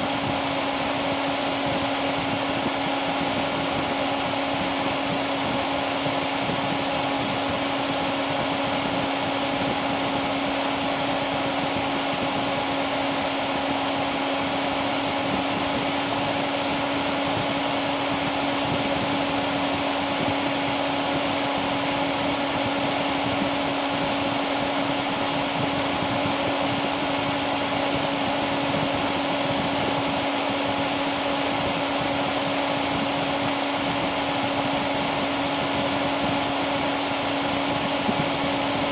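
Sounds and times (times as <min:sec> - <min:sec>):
computer cooling fan running fast: 0:00.0 - 0:38.9.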